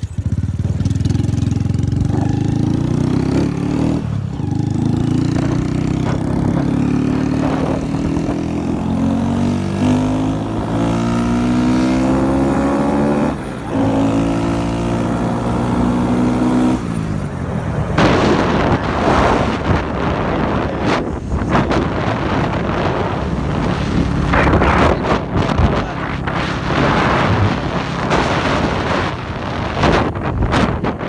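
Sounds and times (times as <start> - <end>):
motorcycle engine accelerating: 0.0 - 31.0
wind buffeting microphone: 0.2 - 31.0.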